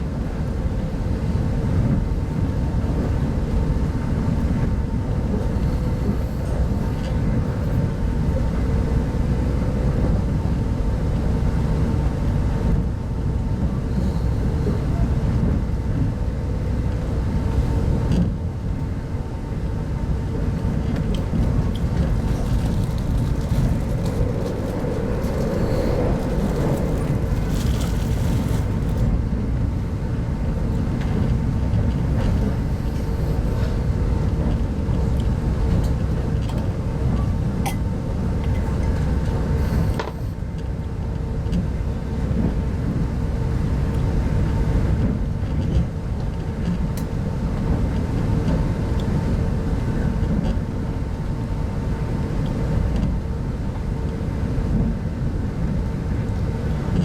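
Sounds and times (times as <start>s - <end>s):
constant hum: 0.0s - 57.0s
train wheels rumbling on track: 0.0s - 57.0s.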